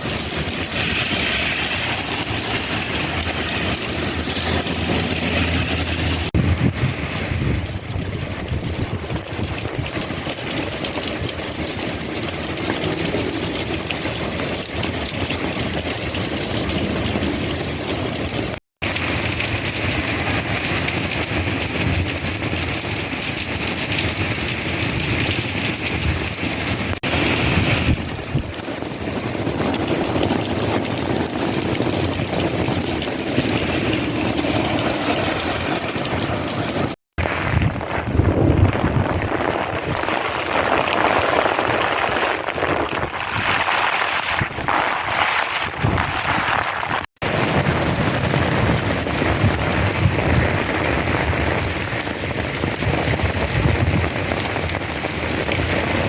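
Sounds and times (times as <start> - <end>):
heavy rain: 0.0 - 56.0
wind on microphone: 0.0 - 56.0.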